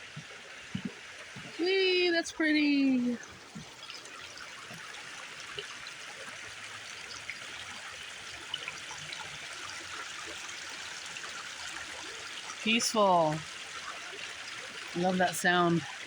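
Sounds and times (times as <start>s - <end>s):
stream babbling over rocks: 0.0s - 16.0s.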